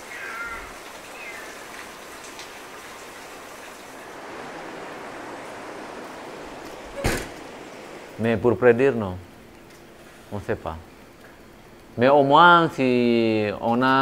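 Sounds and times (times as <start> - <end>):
outdoor rushing hiss: 0.0 - 13.2.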